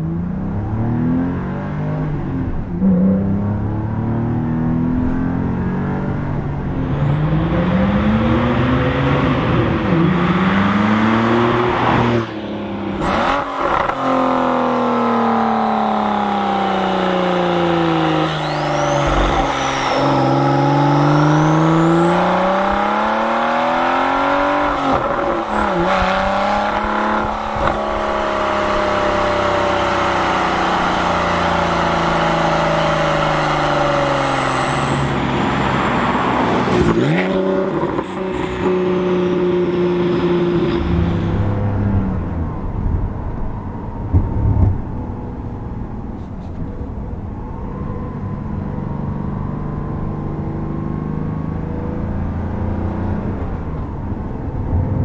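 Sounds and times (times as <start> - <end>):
sports car accelerating: 0.0 - 55.0.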